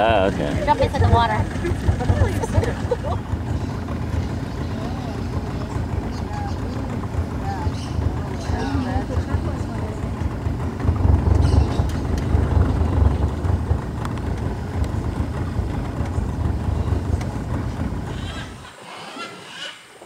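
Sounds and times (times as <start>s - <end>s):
loud rough low rumble: 0.0s - 18.8s.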